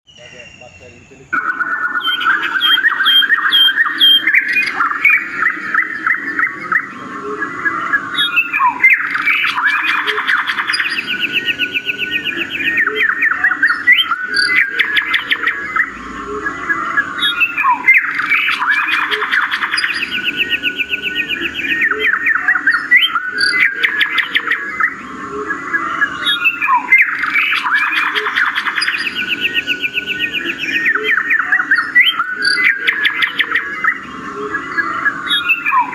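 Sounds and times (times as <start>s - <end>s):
birds chirping and trilling: 0.1s - 35.9s.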